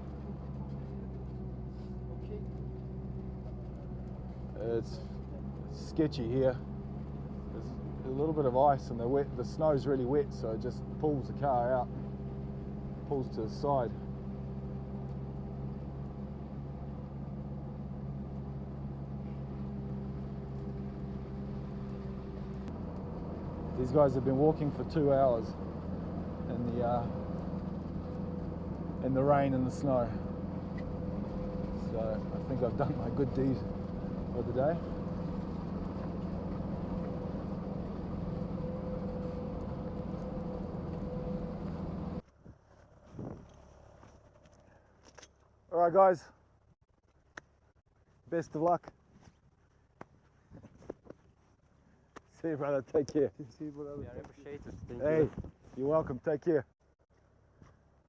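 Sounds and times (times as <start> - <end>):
vehicle engine running: 0.0 - 48.6.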